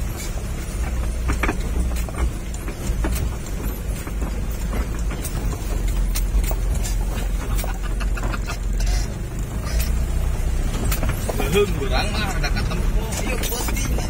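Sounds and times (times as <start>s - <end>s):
knocks and rattles: 0.0s - 14.0s
truck engine rumbling: 0.0s - 14.0s.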